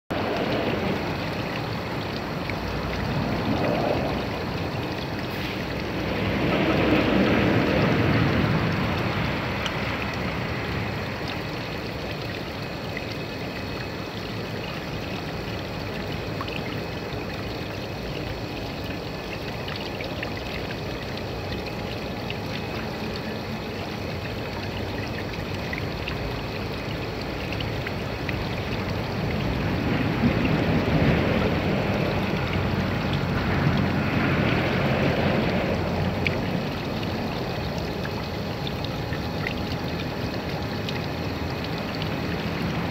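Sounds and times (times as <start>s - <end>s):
pond water splashing and trickling: 0.1s - 42.9s.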